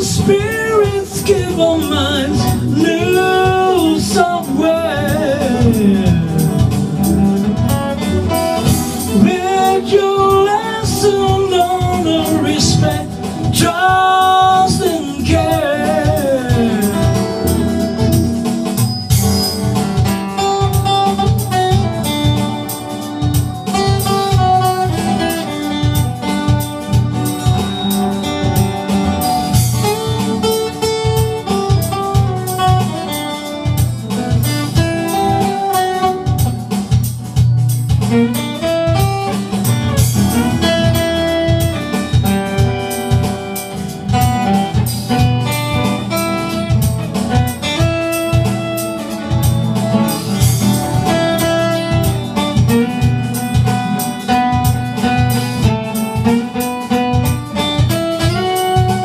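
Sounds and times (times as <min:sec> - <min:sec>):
guitar: 0:00.0 - 0:59.0
instrumental soul music: 0:00.0 - 0:59.0.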